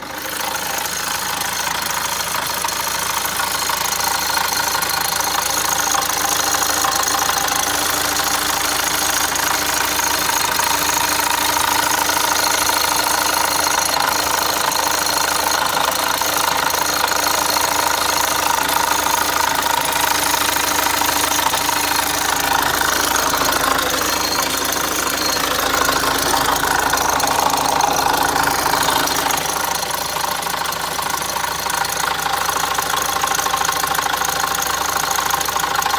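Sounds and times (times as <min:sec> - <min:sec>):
diesel engine rattling: 0:00.0 - 0:35.9.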